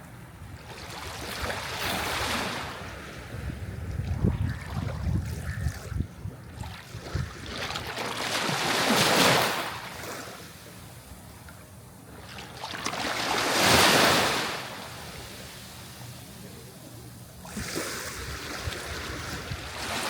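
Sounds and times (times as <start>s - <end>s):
sea waves breaking on shore: 0.6s - 5.3s, 6.5s - 11.3s, 12.1s - 20.0s.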